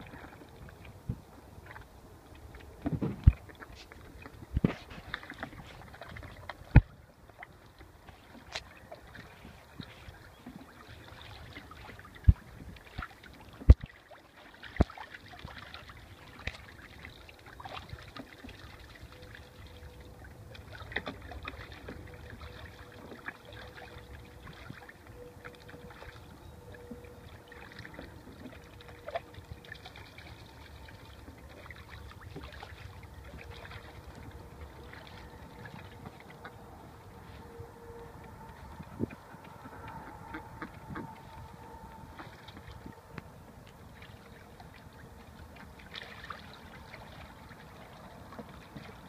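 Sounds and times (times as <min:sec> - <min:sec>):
ducks splashing in water: 0:03.0 - 0:49.0.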